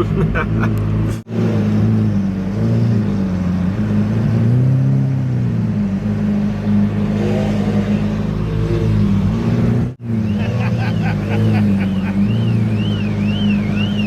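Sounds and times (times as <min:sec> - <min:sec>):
car engine running at low revs: 0:00.0 - 0:14.0.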